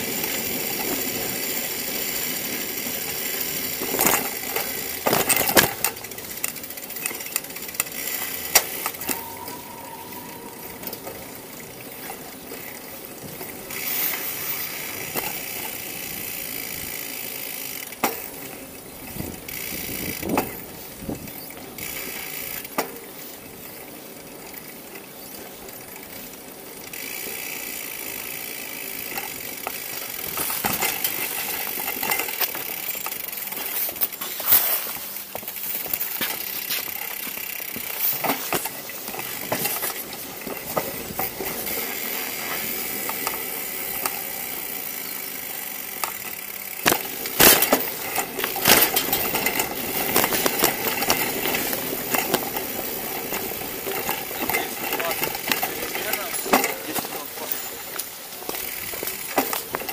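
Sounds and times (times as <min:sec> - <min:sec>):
bicycle parts rattling and knocking: 0:00.0 - 0:59.9.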